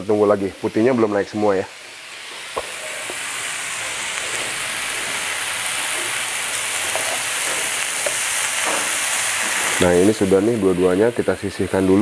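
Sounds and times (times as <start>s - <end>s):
chicken frying in a pan: 0.0s - 12.0s.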